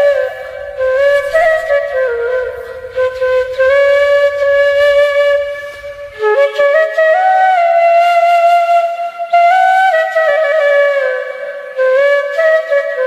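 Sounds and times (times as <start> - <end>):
bamboo flute melody: 0.0 - 13.0.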